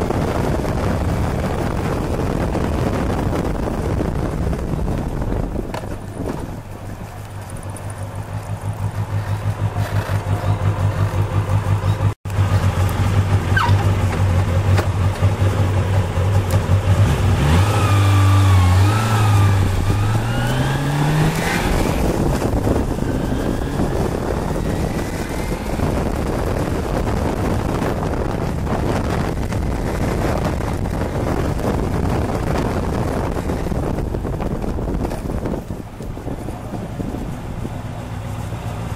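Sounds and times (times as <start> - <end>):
motorcycle engine revving: 0.0 - 38.9
wind and road noise: 0.0 - 38.9.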